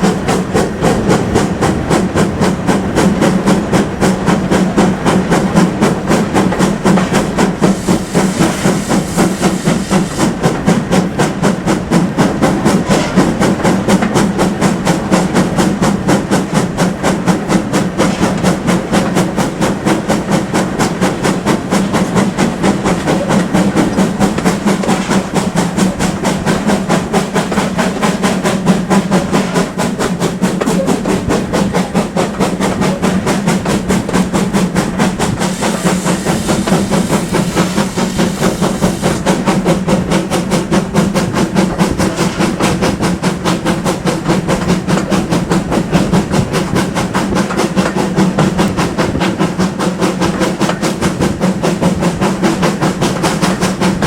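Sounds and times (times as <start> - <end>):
steam locomotive exhaust beats: 0.0 - 54.0.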